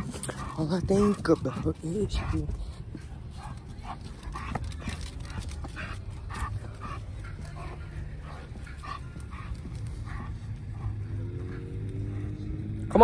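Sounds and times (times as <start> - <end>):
dog panting: 0.0 - 13.0
low steady rumble: 0.0 - 13.0.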